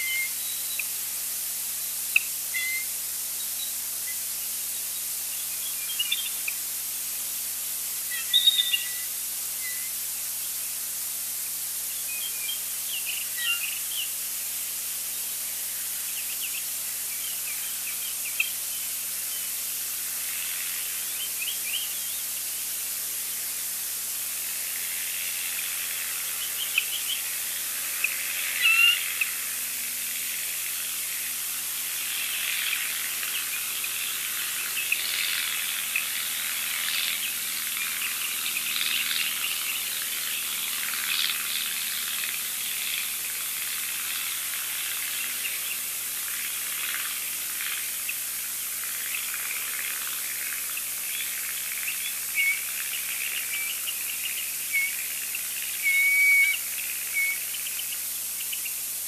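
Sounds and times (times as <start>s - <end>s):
eagles chirping calls: 0.0s - 1.1s, 1.9s - 7.1s, 7.9s - 58.9s
steady high hiss: 0.0s - 59.0s.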